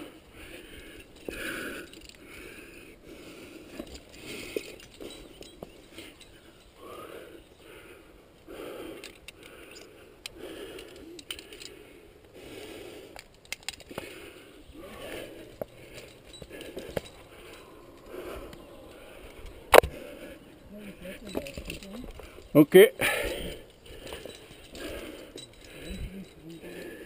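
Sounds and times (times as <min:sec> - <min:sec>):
climber breathing in puffs: 0:00.0 - 0:27.0
climbing gear clinking on rock: 0:00.0 - 0:27.0.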